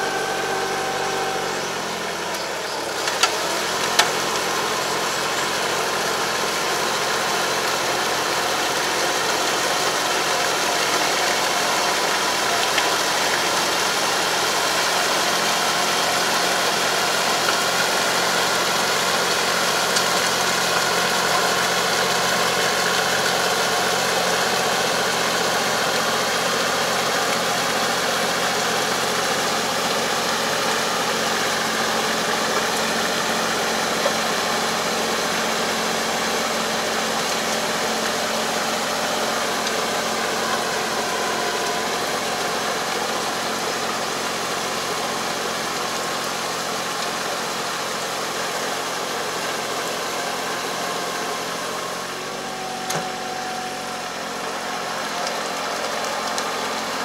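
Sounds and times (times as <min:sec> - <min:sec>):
harrow churning mud and water: 0:00.0 - 0:57.0
tractor engine running: 0:00.0 - 0:57.0.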